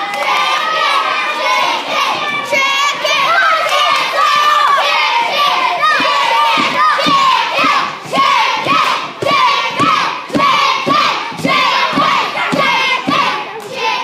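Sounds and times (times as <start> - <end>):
crowd shouting and chanting: 0.0 - 14.0.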